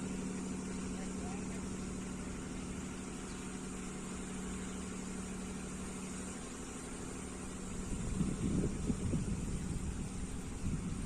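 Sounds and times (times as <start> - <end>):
engine humming: 0.0 - 11.0
rough loud rumble: 0.0 - 11.0.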